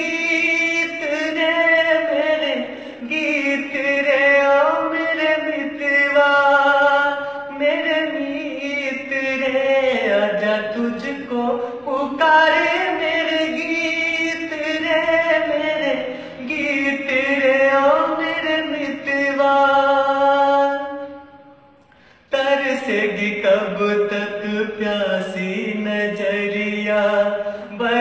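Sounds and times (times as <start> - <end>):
man singing unaccompanied: 0.0 - 21.7, 22.3 - 28.0.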